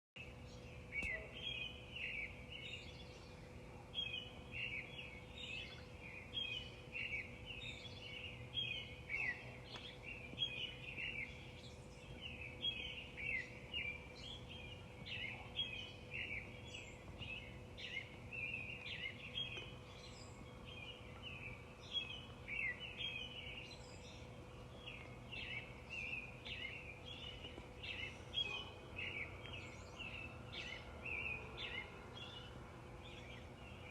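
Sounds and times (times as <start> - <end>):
birds chirping: 0.2 - 33.9
faint background noise: 0.2 - 33.9.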